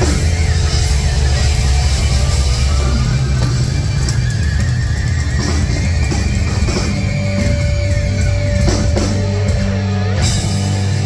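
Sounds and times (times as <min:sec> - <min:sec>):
bass and guitar drone: 0:00.0 - 0:11.0.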